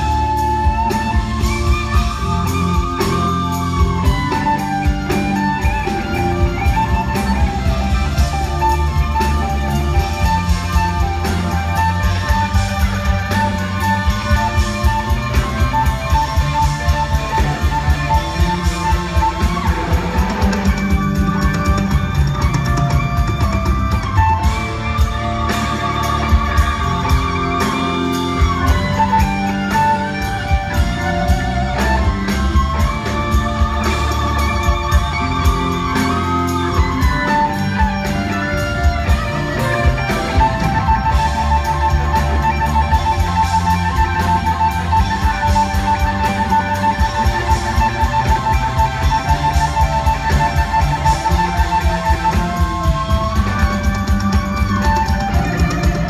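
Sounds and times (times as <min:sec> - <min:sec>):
band with drums: 0:00.0 - 0:56.0
electric guitar solo: 0:00.0 - 0:56.0.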